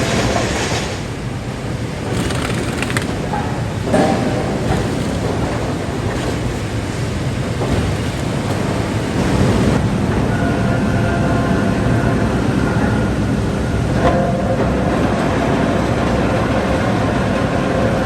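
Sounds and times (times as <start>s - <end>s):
heavy machinery rumbling: 0.0s - 18.0s.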